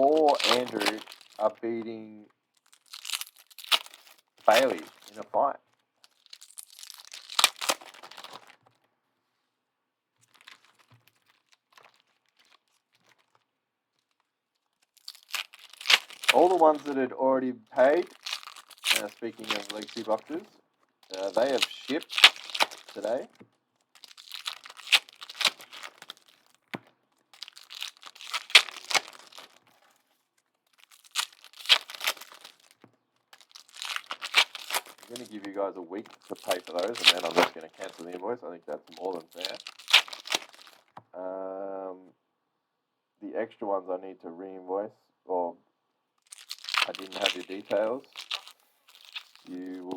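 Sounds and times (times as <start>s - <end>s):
plastic wrappers crinkling: 0.0s - 8.9s, 10.2s - 17.1s, 17.7s - 41.0s, 46.2s - 49.9s.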